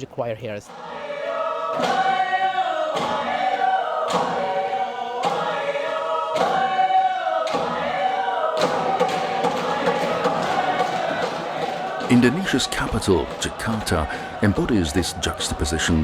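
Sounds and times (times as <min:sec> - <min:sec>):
choir chanting: 0:00.7 - 0:16.0
sharp rhythmic thump: 0:00.7 - 0:16.0.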